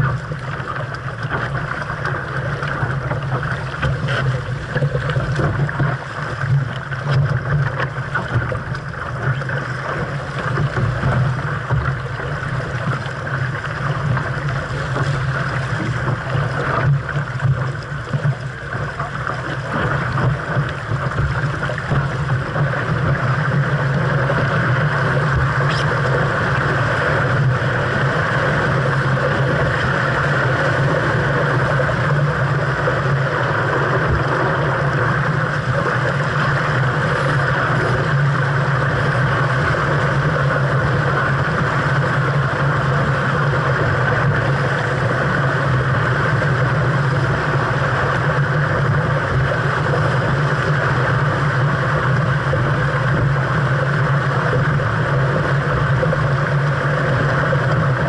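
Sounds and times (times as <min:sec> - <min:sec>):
water rushing along hull: 0:00.0 - 0:58.0.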